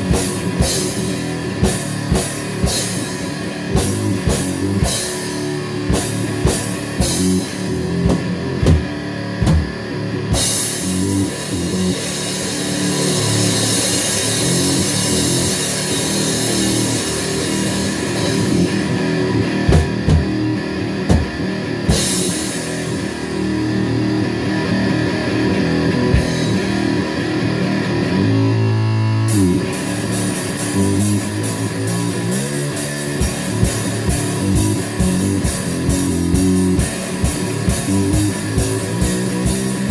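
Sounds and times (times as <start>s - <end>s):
drum kit playing: 0.0s - 28.0s, 29.2s - 39.9s
distorted electric guitar: 0.0s - 39.9s.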